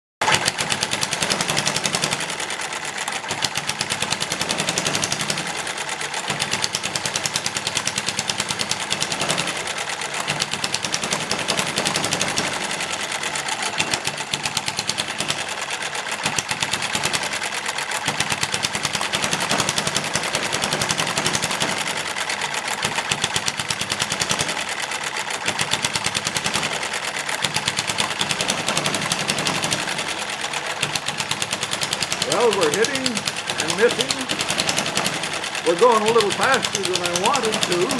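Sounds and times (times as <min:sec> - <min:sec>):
small engine clattering: 0:00.2 - 0:37.9.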